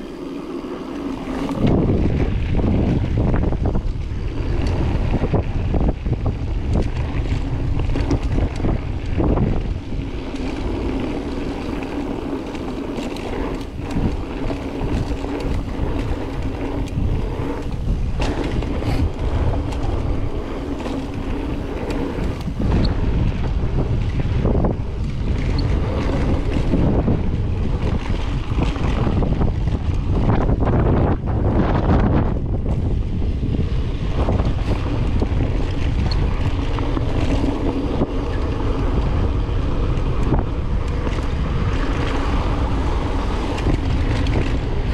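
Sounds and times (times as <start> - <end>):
bike clattering over bumps: 0.0 - 44.9
bike tyres rumbling: 0.0 - 44.9
steady hum: 0.0 - 44.9
wind rushing over microphone: 0.0 - 44.9.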